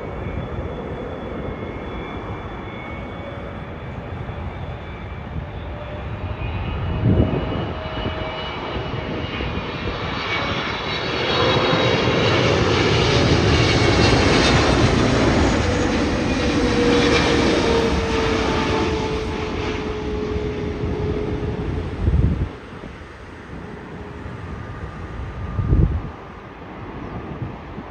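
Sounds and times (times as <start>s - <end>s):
jet airliner passing overhead: 0.0s - 27.9s.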